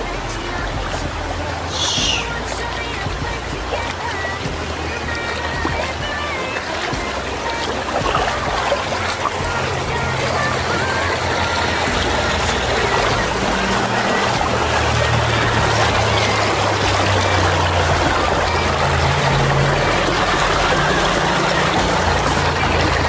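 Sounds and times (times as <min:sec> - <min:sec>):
background music: 0:00.0 - 0:23.0
river water rushing: 0:00.0 - 0:23.0.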